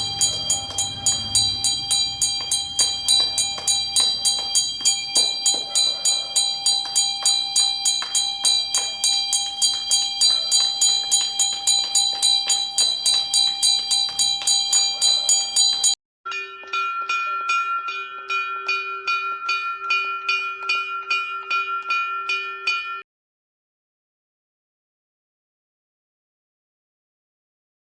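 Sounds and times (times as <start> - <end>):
metal hand bell ringing rapidly: 0.0 - 22.6
lower-pitched bell ringing: 0.0 - 23.0.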